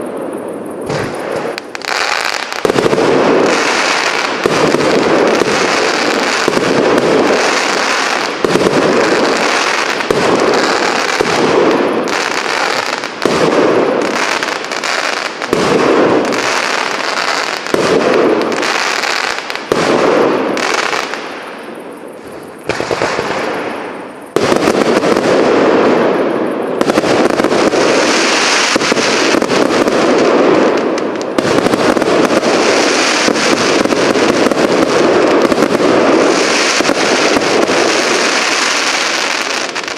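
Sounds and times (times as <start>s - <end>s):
firework cake barrage: 0.0s - 39.9s.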